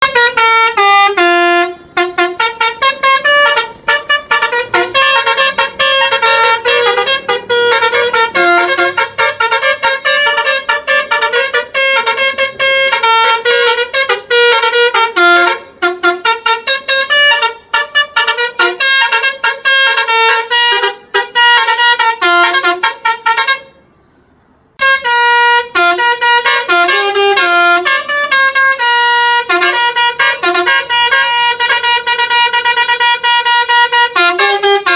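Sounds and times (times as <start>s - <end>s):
musical bus horn playing tune: 0.0s - 34.9s.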